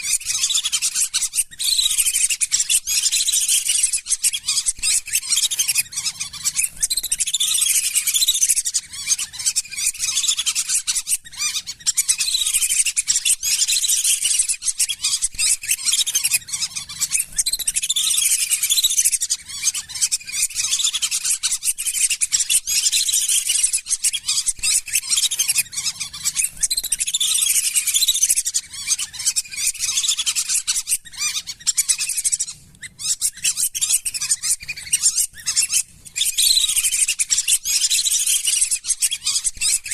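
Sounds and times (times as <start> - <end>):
whistling ducks calling: 0.0 - 39.9.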